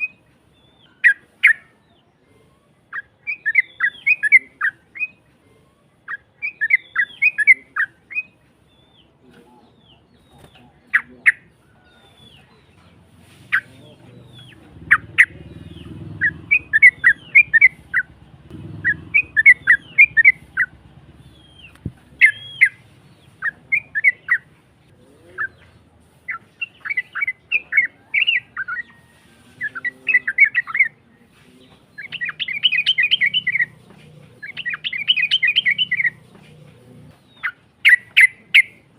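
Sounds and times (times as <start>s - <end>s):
bulbul singing chirping phrases: 0.0s - 38.9s.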